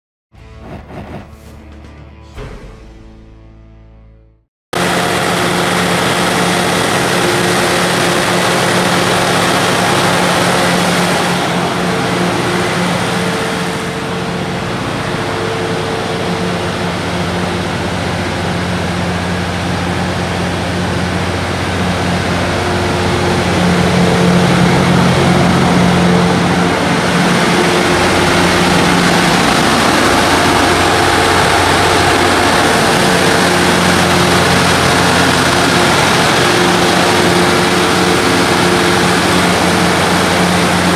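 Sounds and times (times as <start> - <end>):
diesel generator droning: 4.8 - 40.9.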